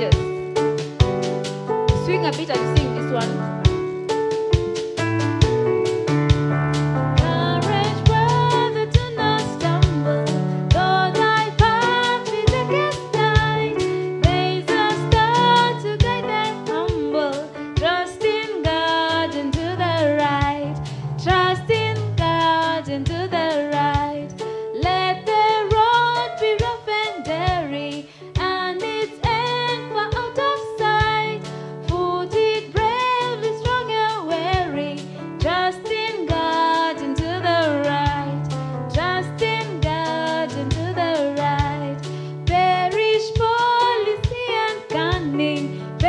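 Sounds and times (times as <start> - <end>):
woman singing into microphone: 0.0 - 0.2, 7.2 - 46.0
backing music with steady beat: 0.0 - 46.0.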